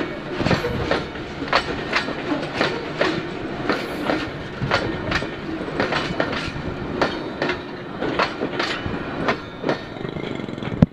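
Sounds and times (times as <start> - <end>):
train rolling rumble: 0.0 - 10.9
train wheels clacking over rail joints: 0.0 - 10.9.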